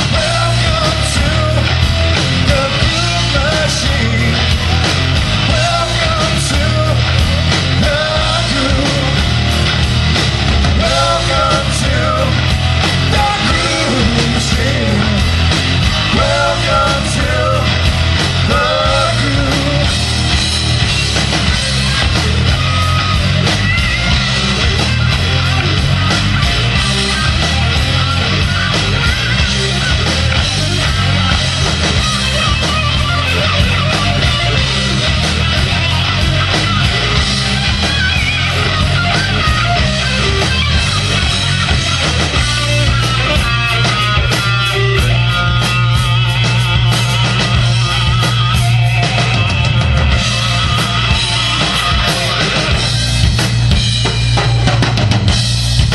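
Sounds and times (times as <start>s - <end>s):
electric guitar: 0.0s - 55.9s
rock band playing: 0.0s - 55.9s.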